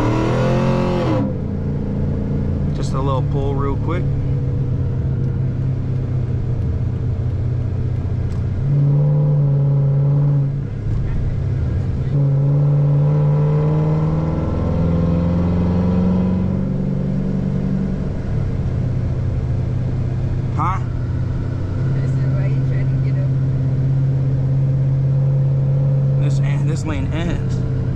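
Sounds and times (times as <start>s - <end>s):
car engine pulling hard: 0.0s - 27.9s.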